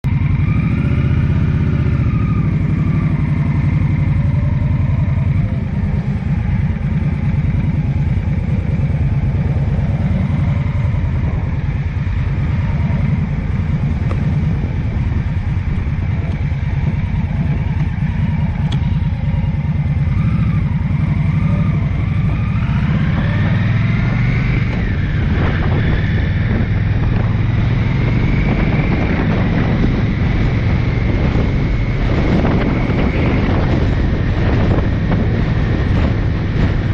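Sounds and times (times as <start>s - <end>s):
vehicle engine running: 0.0s - 36.9s
wind noise: 0.0s - 36.9s.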